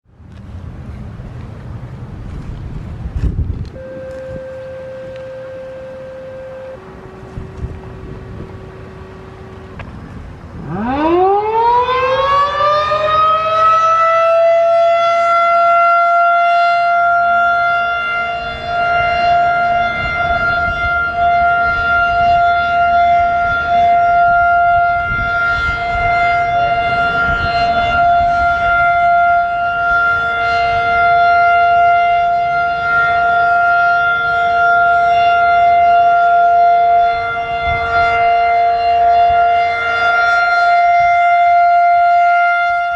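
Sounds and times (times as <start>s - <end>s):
outdoor warning siren winding up: 3.6s - 9.9s, 10.6s - 42.9s.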